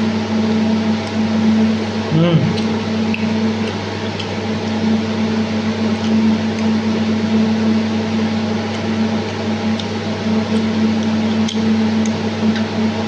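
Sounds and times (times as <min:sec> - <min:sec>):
fan motor whirring hum: 0:00.0 - 0:13.0.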